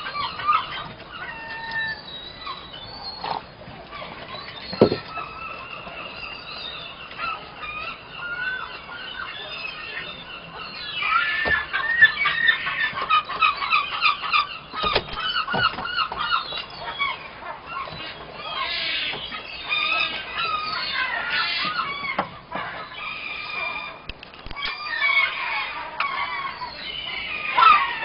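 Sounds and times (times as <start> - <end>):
gulls calling: 0.0 - 28.0.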